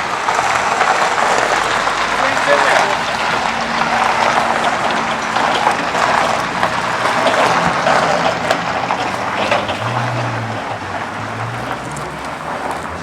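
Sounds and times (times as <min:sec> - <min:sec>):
dense crackling rustle: 0:00.0 - 0:13.0.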